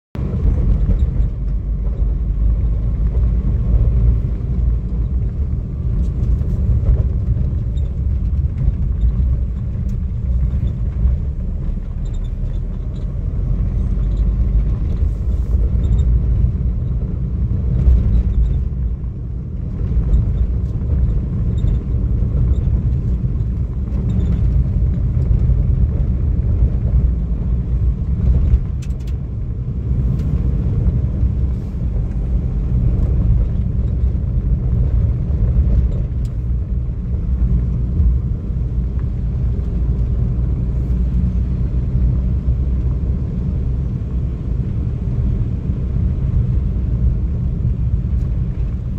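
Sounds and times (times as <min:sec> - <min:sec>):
car rumbling on rough asphalt: 0:00.1 - 0:48.9.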